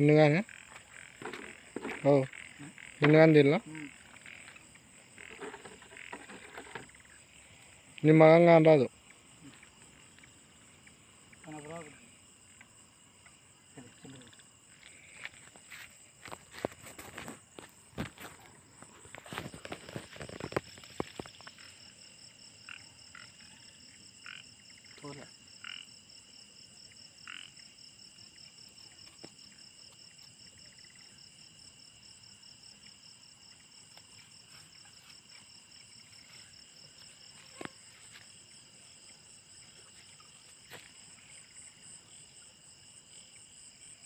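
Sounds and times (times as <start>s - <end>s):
frog calls: 0.0s - 15.6s, 17.1s - 31.2s, 32.8s - 42.6s
crickets trilling: 0.0s - 44.0s.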